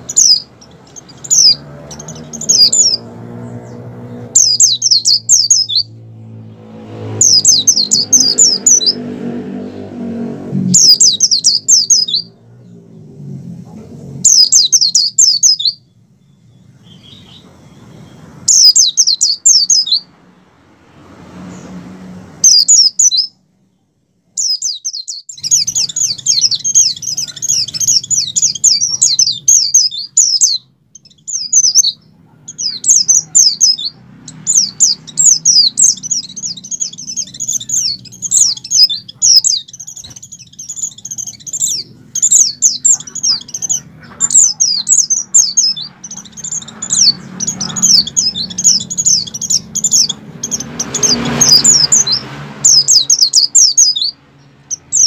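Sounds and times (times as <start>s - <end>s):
bird high twittering song: 0.0s - 55.0s.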